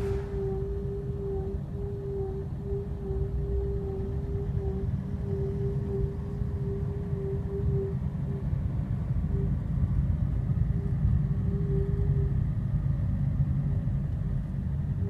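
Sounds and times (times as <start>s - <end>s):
car moaning tone: 0.0s - 13.0s
engine and road rumble: 0.0s - 15.0s.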